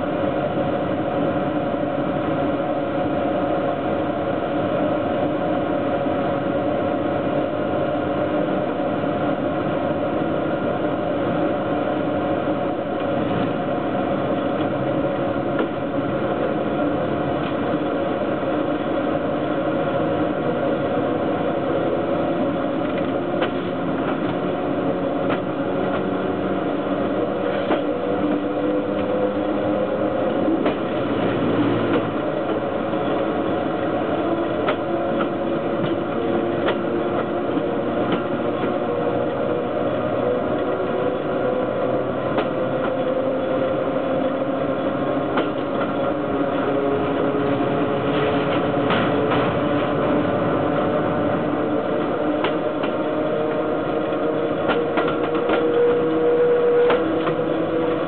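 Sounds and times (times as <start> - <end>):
humming drone: 0.0 - 58.0
train wheels rumbling on rails: 0.0 - 58.0.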